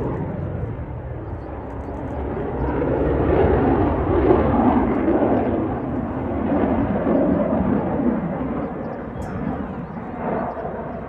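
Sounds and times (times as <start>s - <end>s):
fighter jet rumbling overhead: 0.0s - 11.0s.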